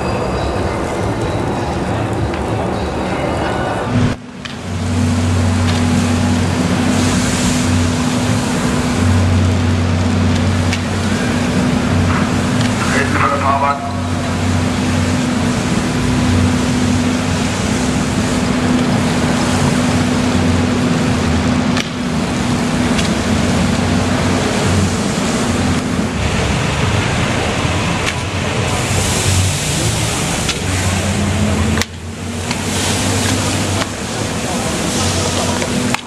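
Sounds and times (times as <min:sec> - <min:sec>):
truck engine and pump hum: 0:00.0 - 0:36.0
high-pressure water spraying: 0:04.0 - 0:36.0.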